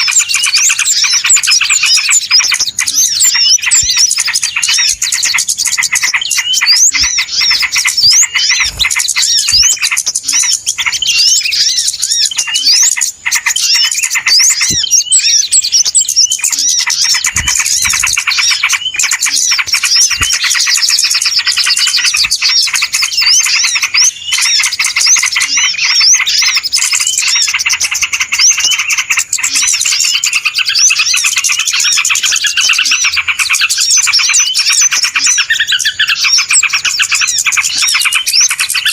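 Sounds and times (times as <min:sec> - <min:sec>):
flock of small birds chattering: 0:00.0 - 0:38.9.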